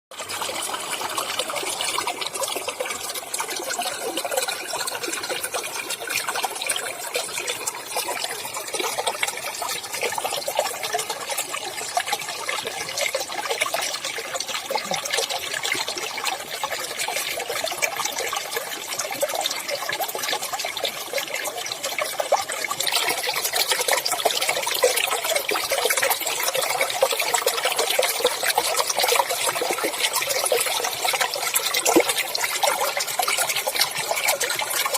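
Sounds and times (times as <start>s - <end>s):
running water trickling: 0.1s - 34.9s.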